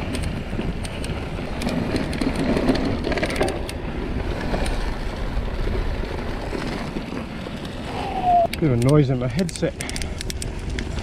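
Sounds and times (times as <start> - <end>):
bike rattling clicks: 0.0 - 5.3, 6.0 - 11.0
bike tyres rolling on dirt: 0.0 - 11.0.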